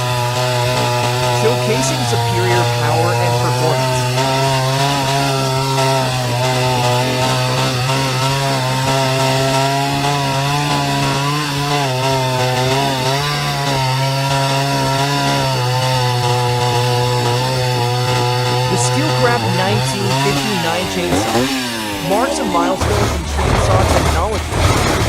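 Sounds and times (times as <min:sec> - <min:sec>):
wood chipper running: 0:00.0 - 0:25.0.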